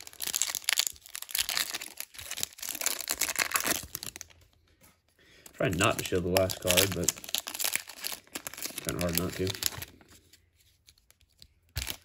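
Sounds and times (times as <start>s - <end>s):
foil wrapper crinkling: 0.0s - 4.5s, 5.4s - 12.0s.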